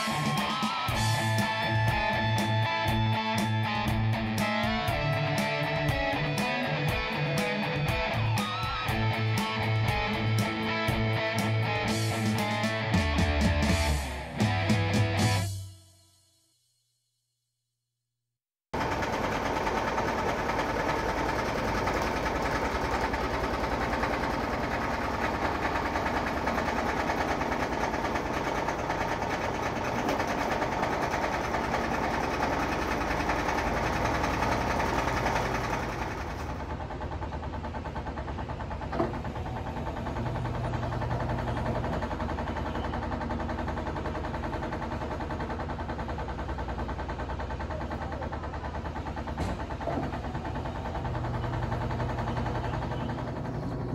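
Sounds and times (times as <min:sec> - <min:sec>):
washing machine running: 0:00.0 - 0:14.1, 0:18.8 - 0:53.9.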